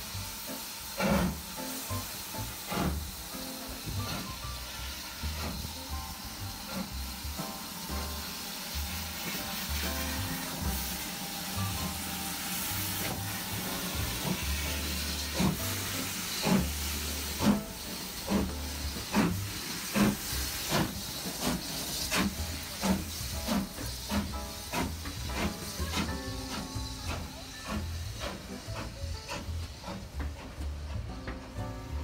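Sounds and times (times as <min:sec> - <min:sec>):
steam hissing: 0:00.0 - 0:32.0
steam locomotive exhaust chuffs: 0:00.0 - 0:32.0.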